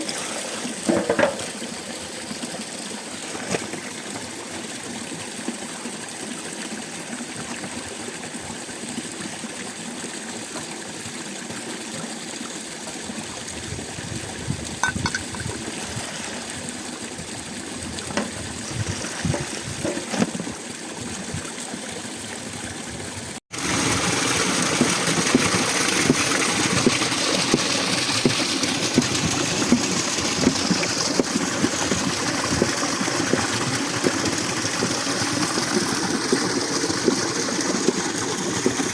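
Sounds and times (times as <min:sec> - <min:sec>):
small water splashes: 0:00.0 - 0:38.9
stream water running: 0:00.0 - 0:38.9.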